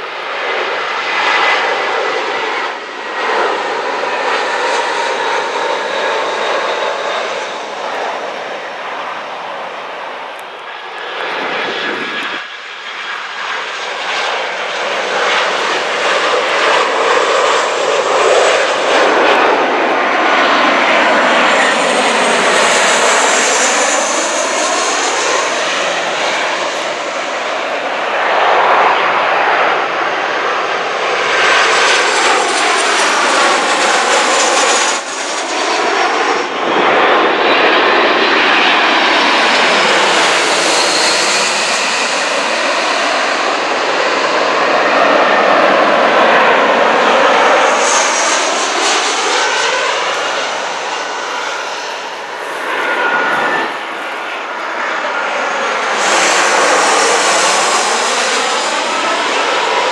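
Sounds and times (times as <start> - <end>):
jet airliners passing overhead: 0.0 - 59.9.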